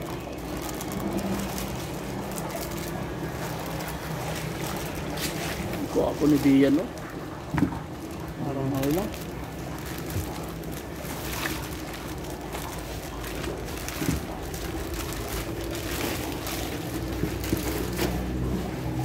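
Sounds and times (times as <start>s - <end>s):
low machine hum: 0.0s - 19.0s
plastic bags rustling: 0.0s - 19.0s.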